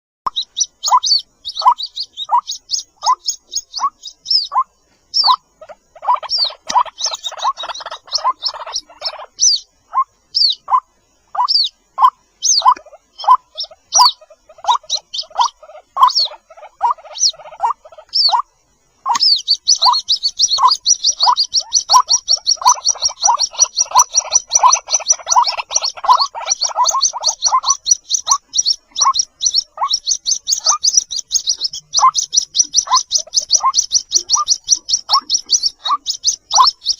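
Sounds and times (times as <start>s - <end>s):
lower bird notes: 0.3s - 10.8s, 11.4s - 36.9s
high downward-sliding bird peeps: 0.3s - 36.9s.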